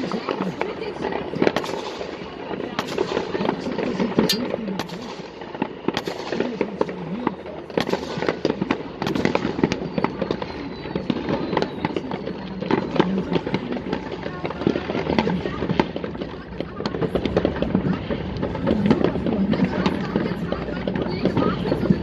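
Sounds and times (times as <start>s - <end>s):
faint voices: 0.0s - 22.0s
fireworks bangs and crackles: 0.0s - 22.0s.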